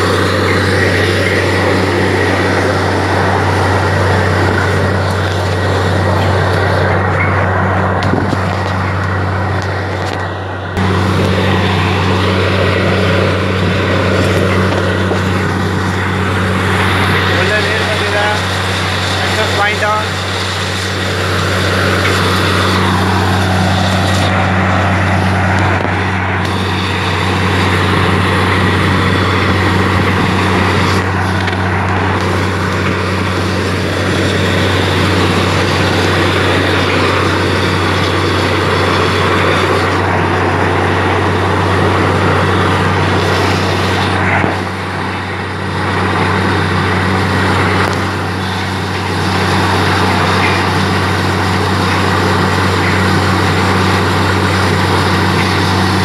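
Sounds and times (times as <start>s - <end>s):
broad rushing noise: 0.0s - 56.0s
engine and compressor hum: 0.0s - 56.0s.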